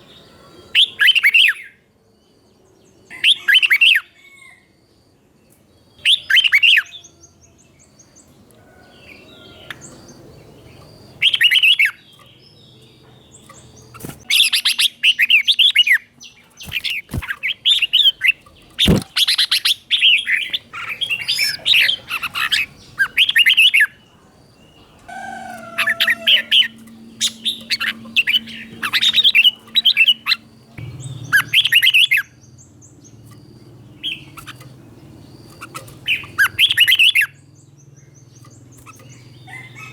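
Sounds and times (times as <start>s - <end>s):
bird singing warbled phrases: 0.0s - 4.5s, 5.4s - 39.9s.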